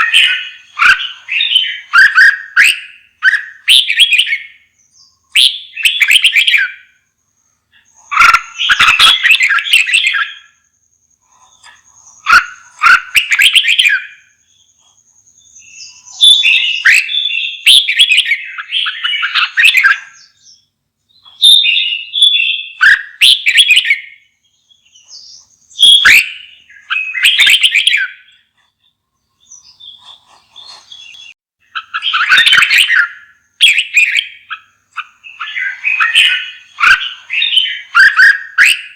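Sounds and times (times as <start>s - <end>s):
bird warbling song: 0.0s - 38.9s.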